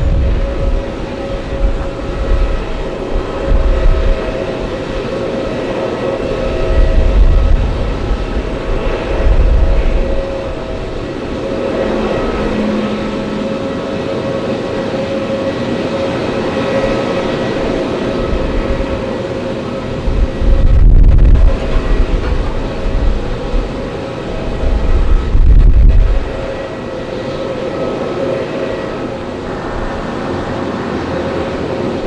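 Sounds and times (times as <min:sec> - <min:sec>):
jet engines running: 0:00.0 - 0:32.0
wind buffeting microphone: 0:00.0 - 0:32.0.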